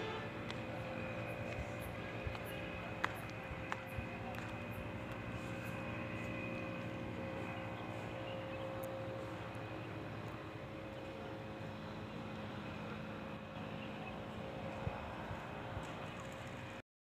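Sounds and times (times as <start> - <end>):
steady mechanical drone: 0.0 - 16.8.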